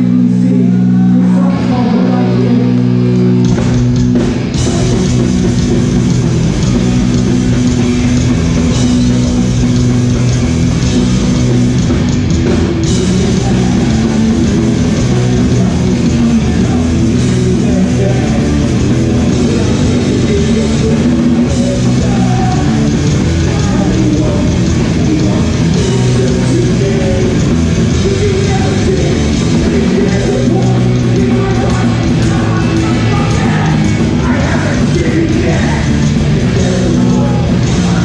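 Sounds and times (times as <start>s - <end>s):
hardcore punk band playing live: 0.0s - 38.0s.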